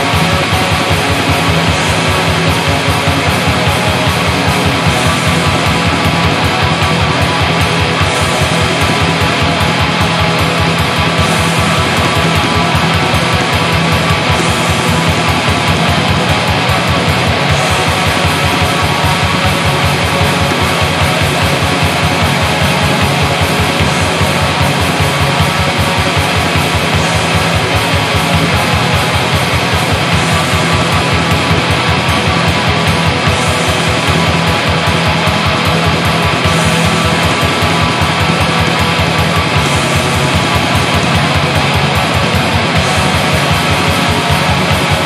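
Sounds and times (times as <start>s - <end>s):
cymbal wash: 0.0s - 45.0s
distorted electric guitars: 0.0s - 45.0s
very fast drum beat: 0.0s - 45.0s.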